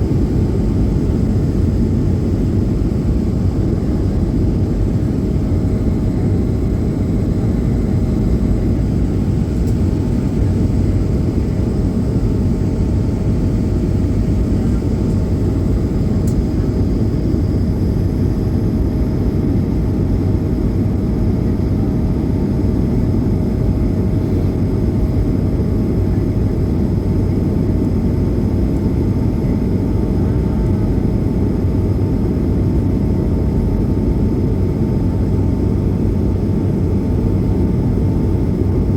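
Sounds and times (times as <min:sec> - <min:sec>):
constant hum: 0:00.0 - 0:38.9
jet engines low rumble: 0:00.0 - 0:38.9.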